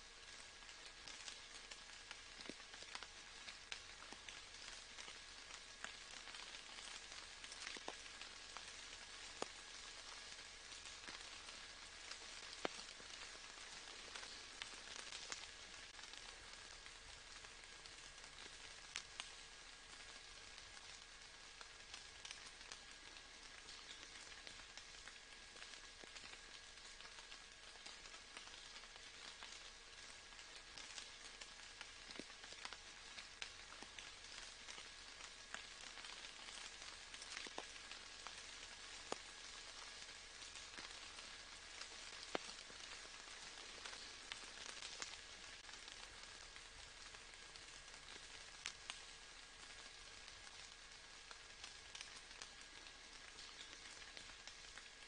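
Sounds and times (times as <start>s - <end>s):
soft rain patter: 0.0s - 55.0s.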